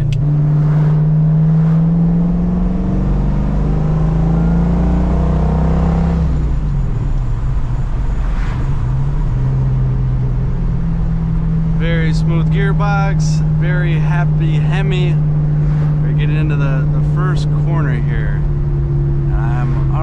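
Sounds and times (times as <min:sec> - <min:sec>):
car engine pulling heard from cabin: 0:00.0 - 0:20.0.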